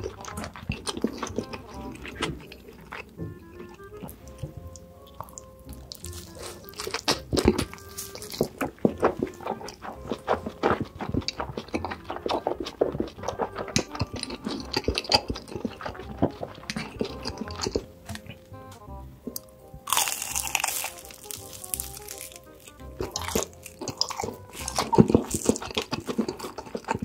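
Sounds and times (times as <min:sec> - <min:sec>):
background music: 0:00.0 - 0:27.0
chewing and crunching food: 0:00.0 - 0:27.0.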